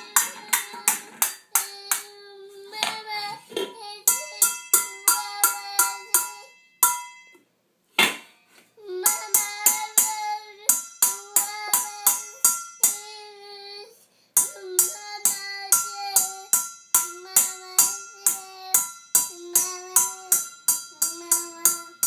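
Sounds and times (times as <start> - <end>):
whisk striking steel bowls: 0.0 - 2.2, 3.8 - 7.4, 9.0 - 13.2, 14.4 - 22.0
child singing: 0.0 - 6.6, 8.8 - 22.0.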